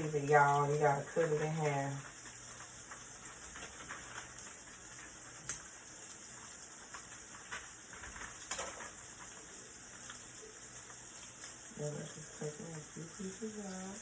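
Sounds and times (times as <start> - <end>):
meat sizzling: 0.0 - 14.0.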